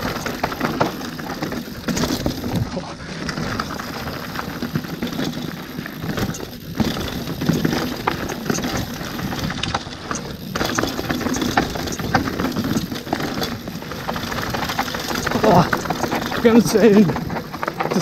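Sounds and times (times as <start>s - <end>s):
bike chain and frame clattering: 0.0s - 18.0s
bike tyres on dirt trail: 0.0s - 18.0s.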